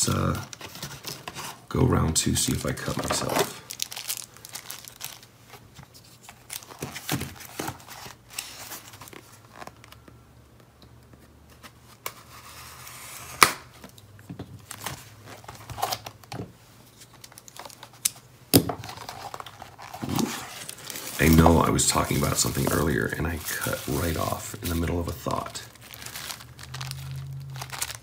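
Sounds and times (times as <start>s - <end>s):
cardboard crinkling and rustling: 0.1s - 10.0s, 11.5s - 28.0s.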